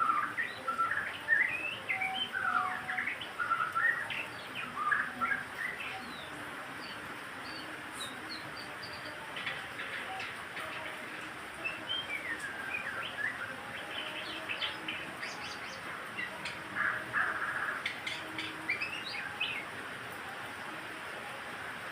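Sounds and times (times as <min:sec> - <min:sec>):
background hiss: 0:00.0 - 0:21.9.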